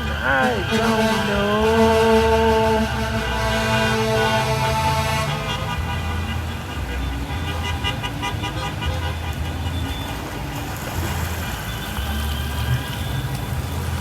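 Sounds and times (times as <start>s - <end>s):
car horns honking: 0.0s - 13.7s
passing cars: 0.0s - 14.0s.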